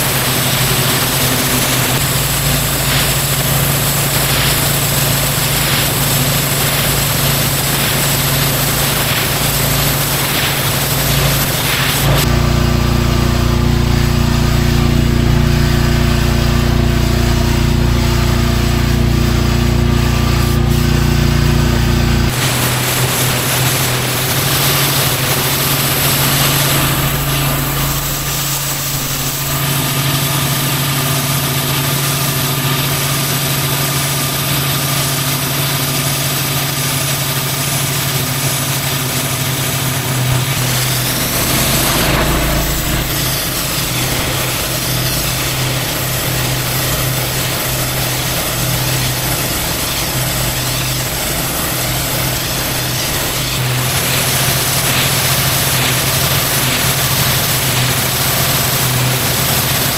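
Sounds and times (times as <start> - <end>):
pressure washer engine running: 0.0 - 59.9
pressure washer hiss: 0.0 - 59.9.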